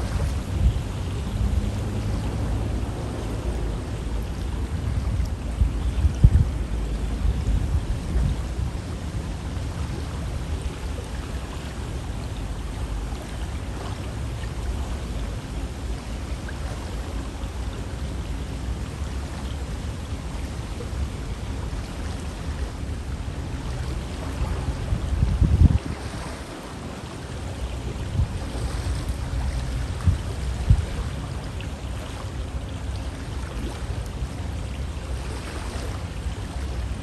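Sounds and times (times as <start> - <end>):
river water flowing: 0.0 - 37.0.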